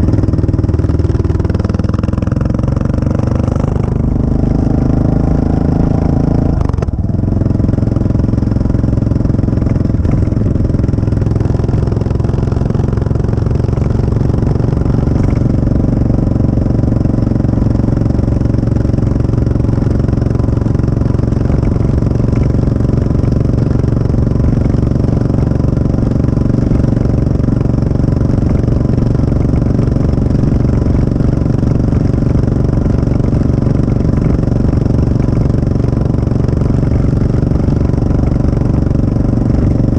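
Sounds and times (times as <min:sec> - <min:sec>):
single-cylinder engine exhaust: 0:00.0 - 0:39.9.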